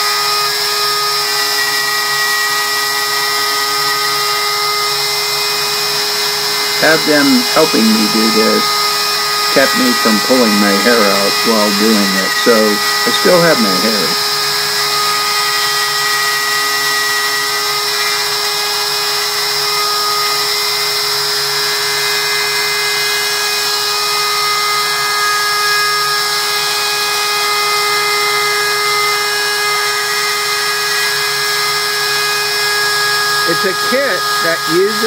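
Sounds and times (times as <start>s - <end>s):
router cutting plywood: 0.0s - 35.0s.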